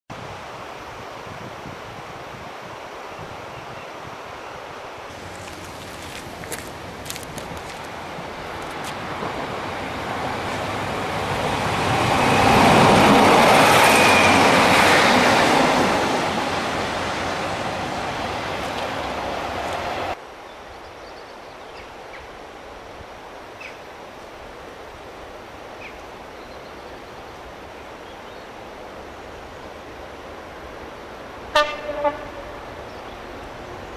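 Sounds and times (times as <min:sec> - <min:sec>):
outdoor background noise: 0:00.1 - 0:33.9.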